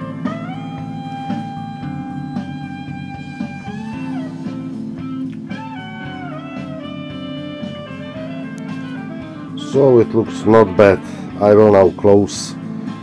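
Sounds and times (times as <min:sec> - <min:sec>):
bass and rhythm pattern: 0:00.0 - 0:13.0
blues guitar bending notes: 0:00.0 - 0:13.0.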